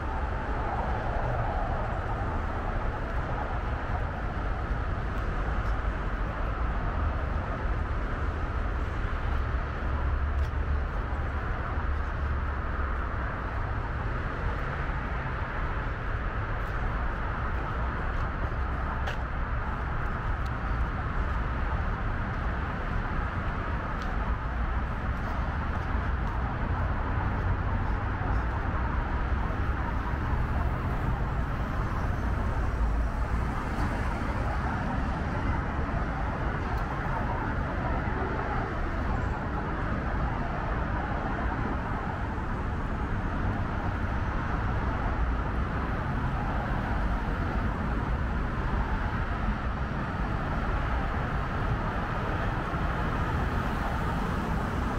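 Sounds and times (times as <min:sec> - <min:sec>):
freeway traffic rushing: 0:00.0 - 0:54.9.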